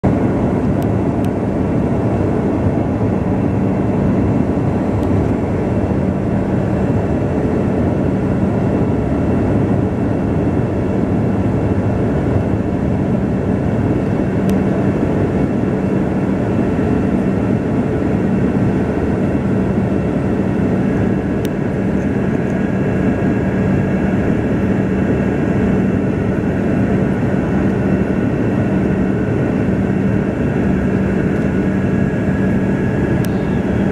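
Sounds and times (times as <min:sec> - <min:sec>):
constant low hum: 0:00.0 - 0:33.9
engine and airflow rush: 0:00.0 - 0:33.9.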